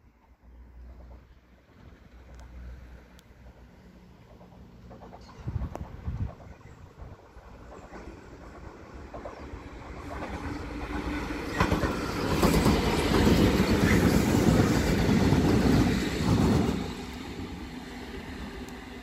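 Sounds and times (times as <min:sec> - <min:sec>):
diesel locomotive engines: 0:00.0 - 0:19.0
wheels clattering on rails: 0:00.9 - 0:17.7.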